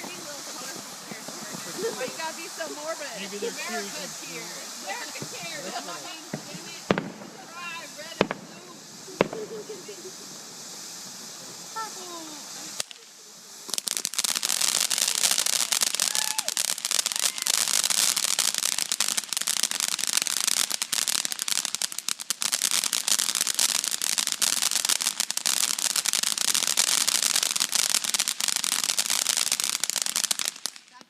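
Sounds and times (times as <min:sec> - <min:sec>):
firework crackling: 0:00.0 - 0:31.0.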